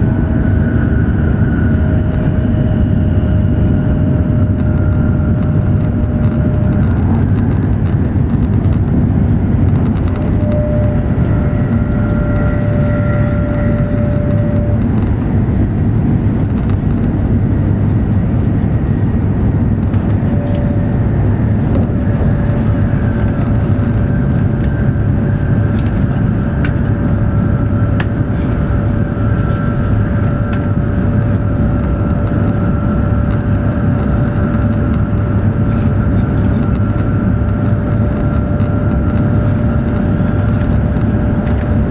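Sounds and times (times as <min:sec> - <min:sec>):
faint whine: 0:00.0 - 0:41.9
train running rumble: 0:00.0 - 0:41.9.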